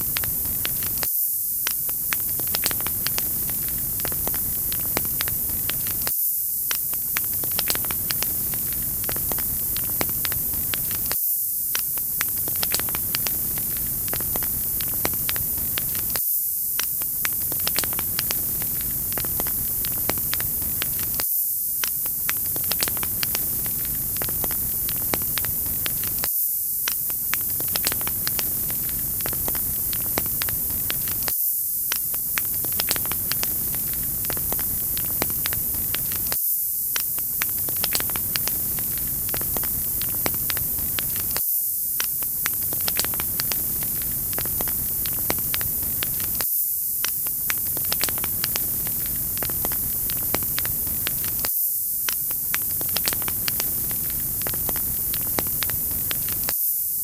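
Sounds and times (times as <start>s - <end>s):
wood fire crackling and popping: 0.0s - 41.4s, 42.0s - 56.6s
steady hiss: 0.0s - 57.0s.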